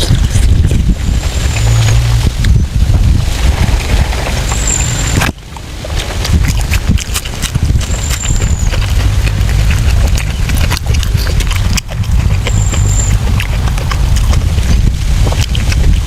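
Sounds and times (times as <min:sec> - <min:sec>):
low rumble: 0:00.0 - 0:16.0
person chewing and lip-smacking: 0:00.0 - 0:16.0.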